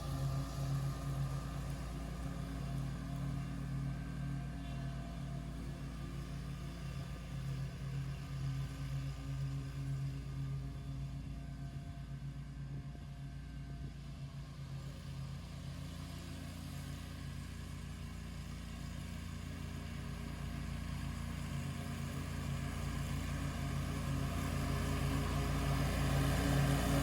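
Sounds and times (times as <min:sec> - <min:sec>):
mower engine running: 0:00.0 - 0:27.0.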